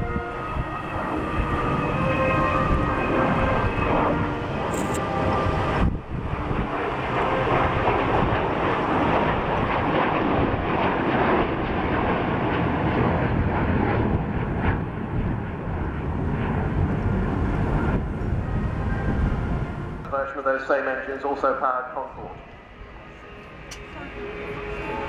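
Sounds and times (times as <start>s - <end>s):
jet bomber flying past: 0.0s - 25.0s.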